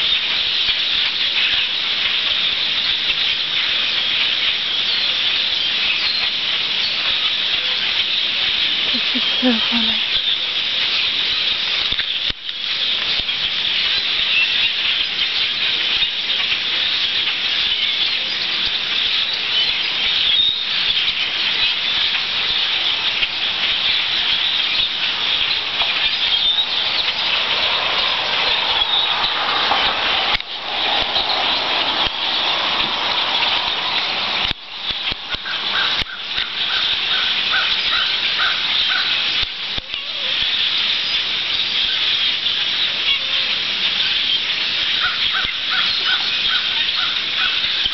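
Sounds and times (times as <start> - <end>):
huge flock of birds calling: 0.0 - 47.9.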